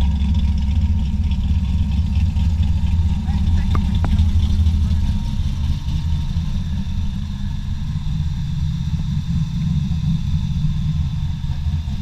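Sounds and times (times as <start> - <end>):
car engine idling at low revs: 0.0 - 12.0.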